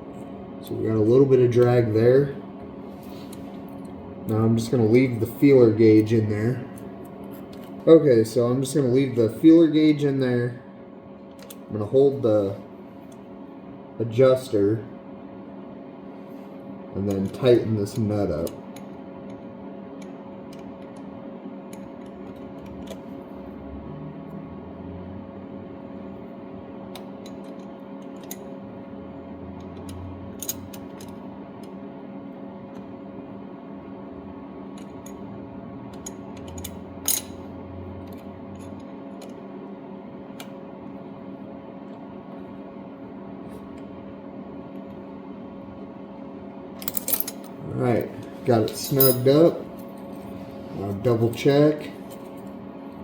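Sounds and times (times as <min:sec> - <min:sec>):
steady background hum: 0:00.0 - 0:53.0.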